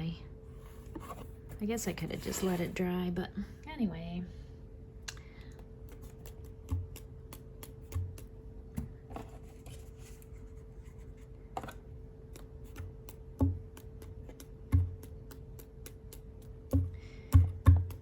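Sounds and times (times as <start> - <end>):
faint hum: 0.0 - 18.0.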